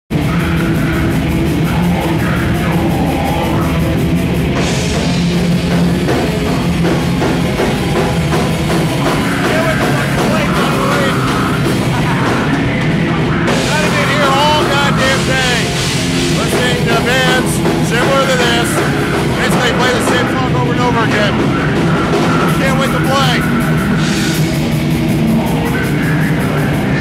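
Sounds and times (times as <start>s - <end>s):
distorted guitars: 0.1s - 27.0s
drum kit fast beat: 0.1s - 27.0s.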